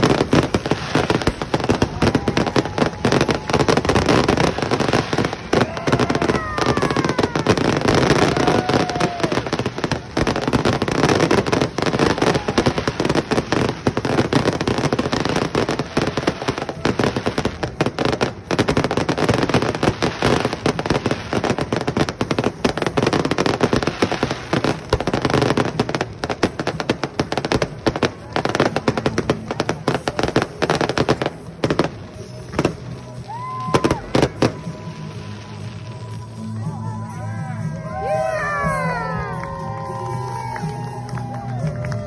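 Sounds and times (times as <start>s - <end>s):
fireworks crackling and banging: 0.0s - 36.8s, 37.4s - 42.0s.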